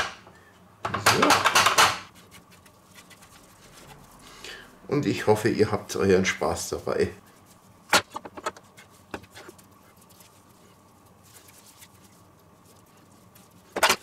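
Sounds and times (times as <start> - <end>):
kneading dough: 2.1 - 14.0.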